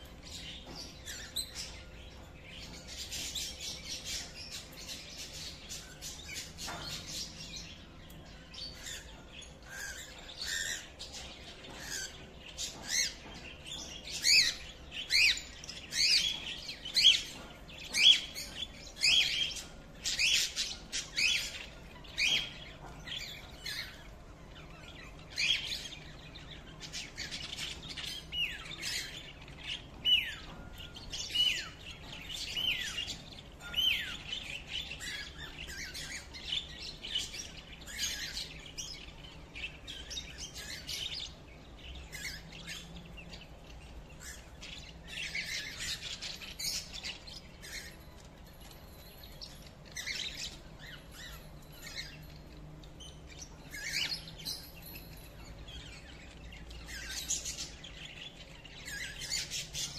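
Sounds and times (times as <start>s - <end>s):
small parrots chirping and calling: 0.0s - 59.9s.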